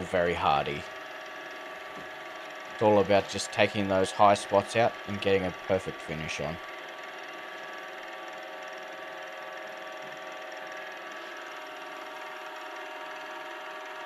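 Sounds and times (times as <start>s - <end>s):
pads smoothing spinning wood: 0.0s - 14.0s
wood lathe humming: 0.0s - 14.0s.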